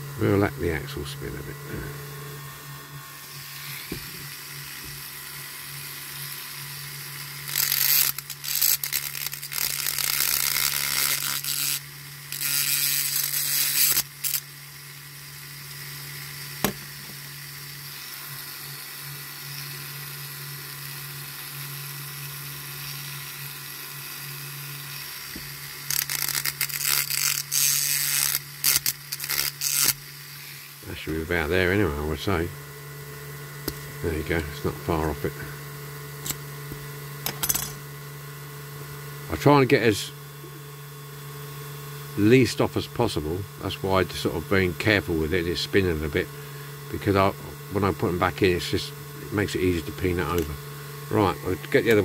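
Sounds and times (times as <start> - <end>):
grinding hiss: 0.0 - 37.8, 42.2 - 52.0
rotary tool humming: 0.0 - 52.0.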